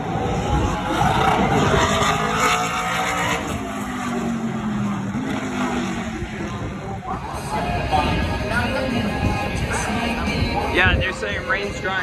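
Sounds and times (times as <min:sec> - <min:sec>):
race cars passing at speed: 0:00.0 - 0:11.8.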